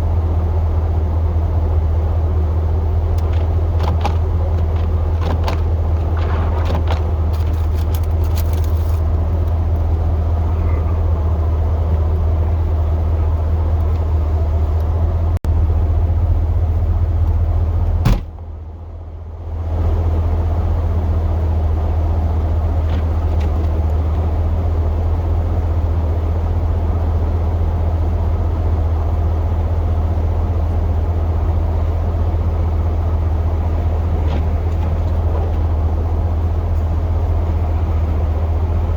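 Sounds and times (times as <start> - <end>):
pickup truck engine and road noise: 0.0 - 38.9.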